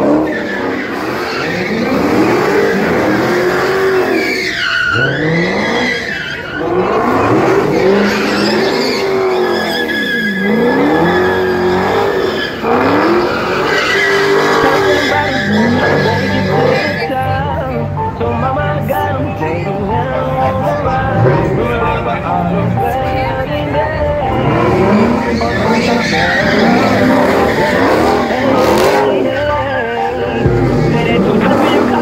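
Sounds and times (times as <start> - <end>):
tires squealing on pavement: 0.0 - 17.2, 20.6 - 32.0
car engine revving: 0.0 - 32.0.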